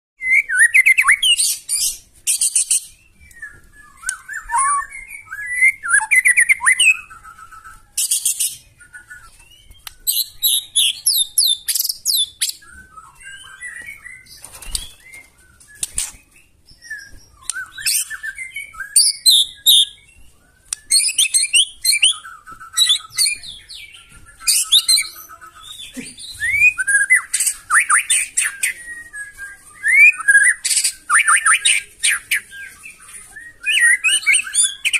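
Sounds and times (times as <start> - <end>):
bird singing whistled phrases: 0.2 - 34.9.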